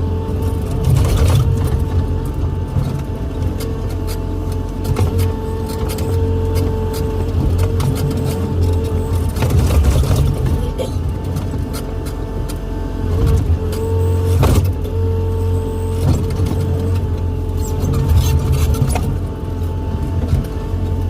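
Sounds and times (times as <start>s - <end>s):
excavator diesel engine whining: 0.0s - 21.0s.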